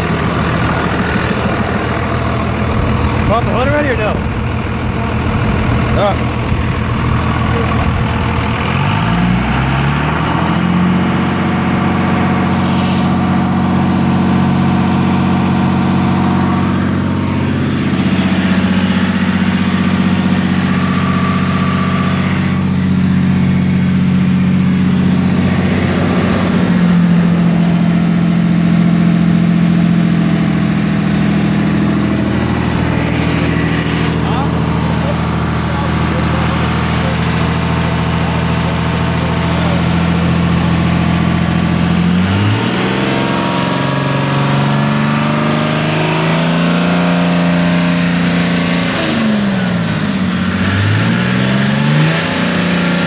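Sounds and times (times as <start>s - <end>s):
diesel engine revving: 0.0s - 53.0s.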